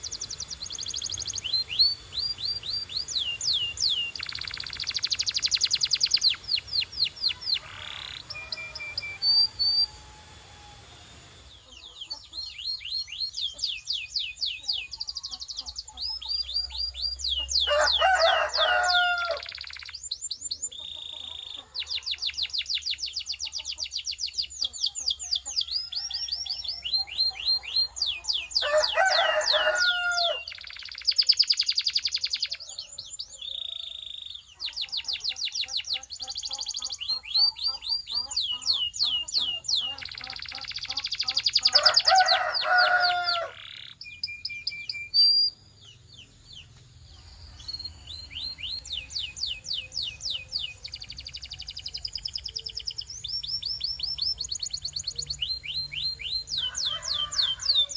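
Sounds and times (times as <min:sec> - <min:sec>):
canary trilling song: 0:00.0 - 0:57.9.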